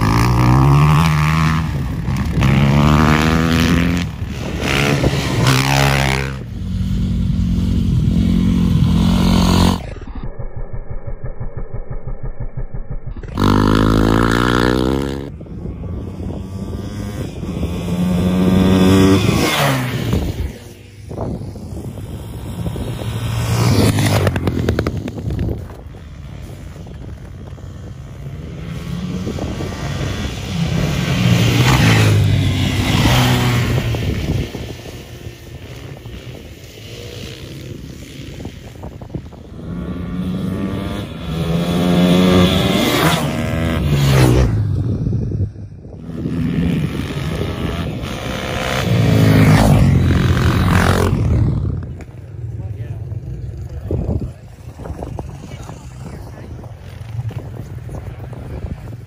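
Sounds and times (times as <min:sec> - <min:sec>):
motorcycle engines revving past: 0:00.0 - 0:59.0.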